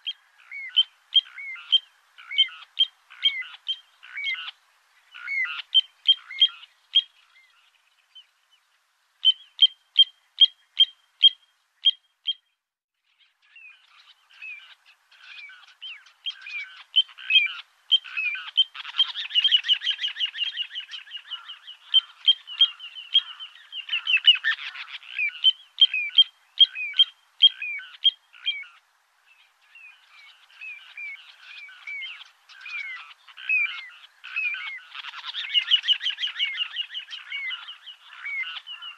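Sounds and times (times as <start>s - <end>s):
frogs croaking in chorus: 0.0s - 7.4s, 9.2s - 12.4s, 13.7s - 28.9s, 29.5s - 38.9s.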